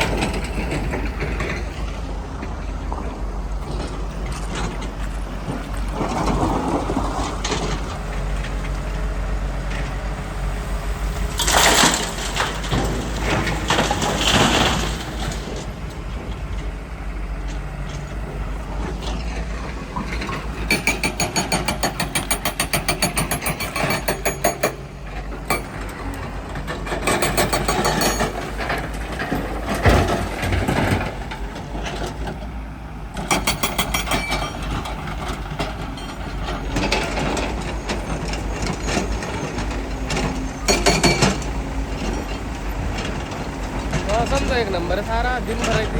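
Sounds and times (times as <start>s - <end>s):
heavy machinery diesel engines: 0.0s - 45.9s.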